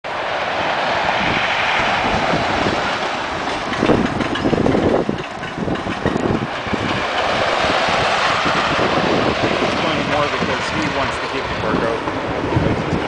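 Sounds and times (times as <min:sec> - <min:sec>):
roller coaster rumble: 0:00.1 - 0:13.0
wheels clattering on track: 0:00.5 - 0:13.0.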